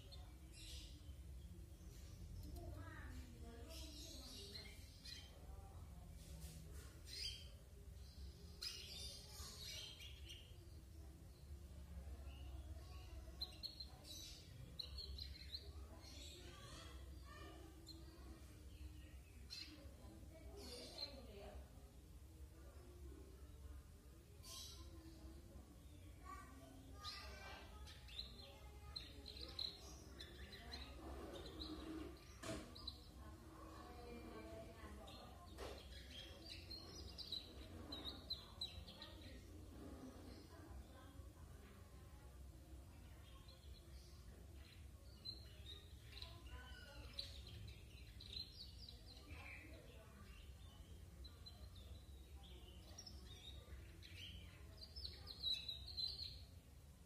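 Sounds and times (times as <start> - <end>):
canary chirping: 0.0 - 21.6, 24.4 - 56.6.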